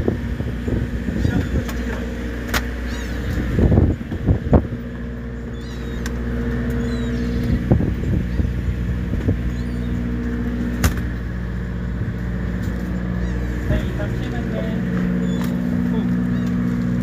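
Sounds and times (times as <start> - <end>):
boat machinery humming: 0.0 - 17.0.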